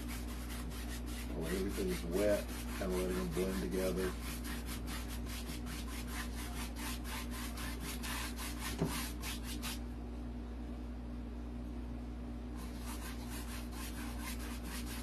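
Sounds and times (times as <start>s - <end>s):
paintbrush scrubbing on canvas: 0.0s - 9.8s, 12.6s - 15.0s
steady low hum: 0.0s - 15.0s.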